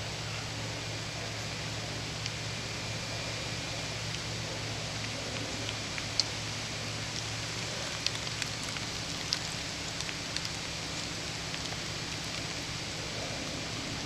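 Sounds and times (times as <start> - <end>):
constant hiss: 0.0 - 14.0
engine running with low hum: 0.0 - 14.0.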